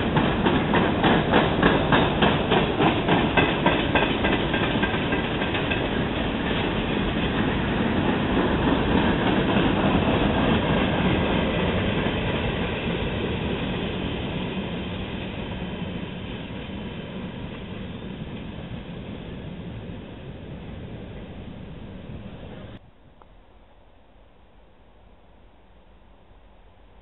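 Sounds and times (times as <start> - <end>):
train wheels rumbling and clacking: 0.0 - 22.8.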